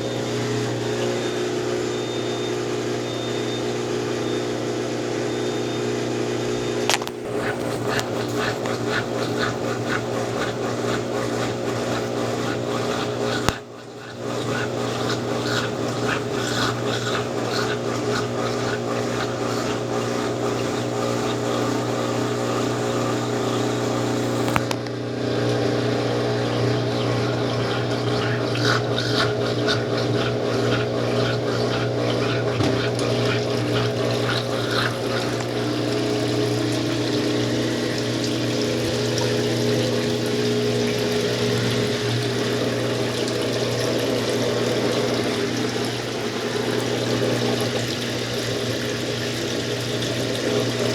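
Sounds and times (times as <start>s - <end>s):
washing machine motor hum: 0.0s - 50.9s
water moving in machine: 0.0s - 50.9s.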